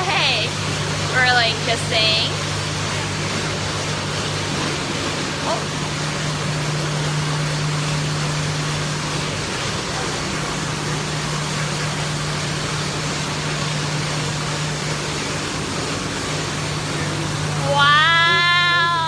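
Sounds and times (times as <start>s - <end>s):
constant low hum: 0.0s - 19.0s
machines running steadily: 0.0s - 19.0s.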